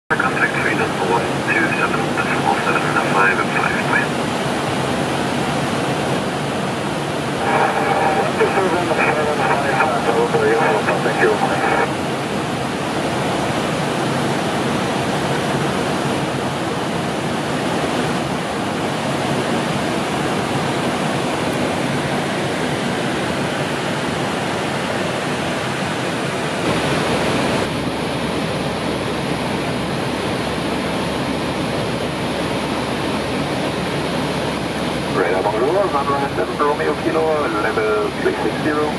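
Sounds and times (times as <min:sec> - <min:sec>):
rushing airflow noise: 0:00.1 - 0:38.9.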